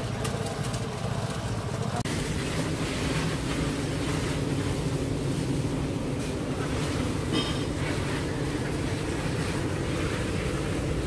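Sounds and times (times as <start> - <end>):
steady rumbling: 0.0 - 11.0.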